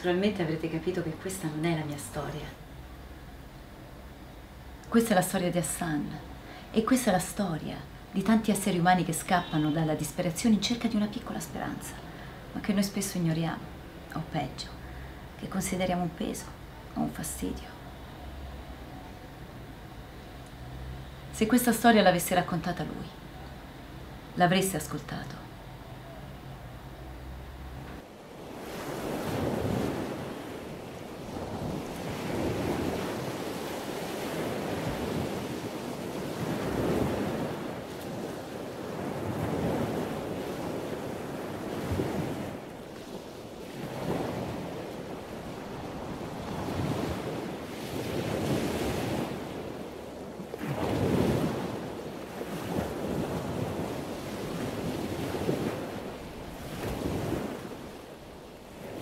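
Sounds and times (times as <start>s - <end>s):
sea waves washing in: 0.0s - 59.0s.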